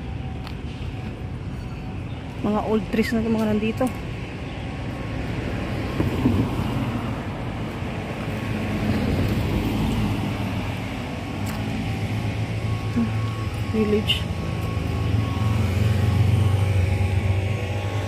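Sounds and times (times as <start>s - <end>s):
road traffic going by: 0.0s - 18.0s.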